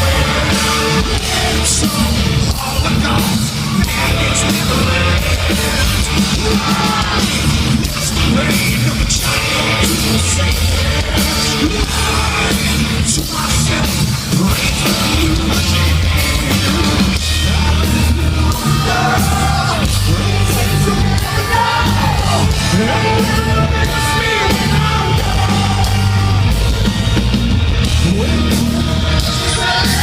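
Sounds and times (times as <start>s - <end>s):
heavy metal band playing live: 0.0s - 30.0s.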